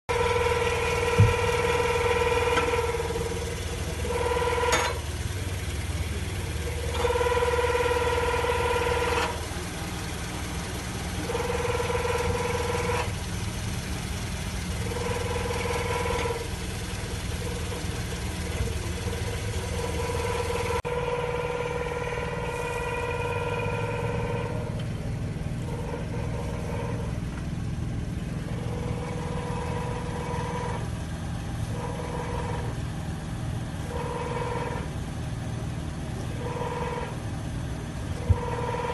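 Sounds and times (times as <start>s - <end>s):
car engine idling: 0.0s - 38.9s
pitched exhaust tone: 0.1s - 38.9s.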